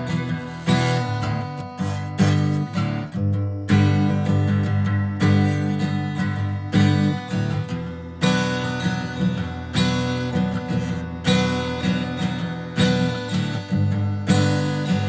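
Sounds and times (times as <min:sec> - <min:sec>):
strummed acoustic guitar chords: 0:00.0 - 0:15.0.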